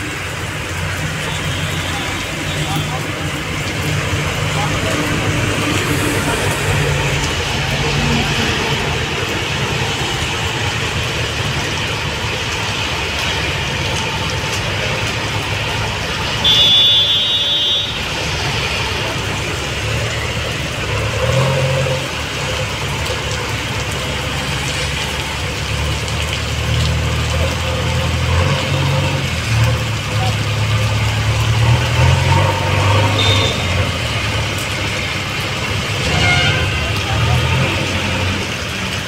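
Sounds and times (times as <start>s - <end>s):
heavy rain falling: 0.0s - 39.0s
truck engines rumbling: 0.0s - 39.0s.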